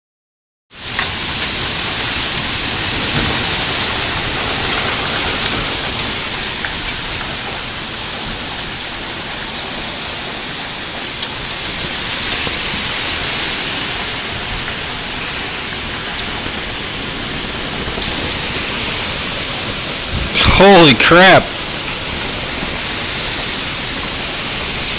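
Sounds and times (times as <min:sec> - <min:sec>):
heavy rain and wind hissing: 0:00.8 - 0:24.9.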